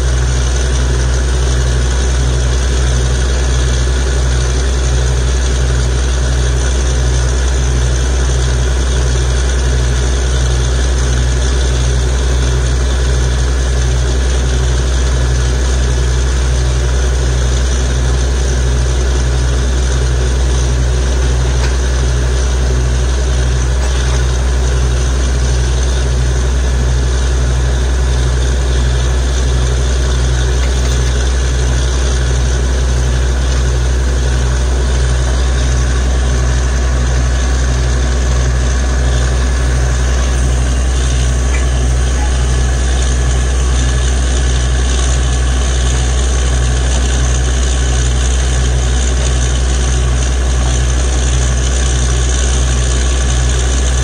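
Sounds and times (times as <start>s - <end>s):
drilling rig engine drone: 0.0s - 54.0s.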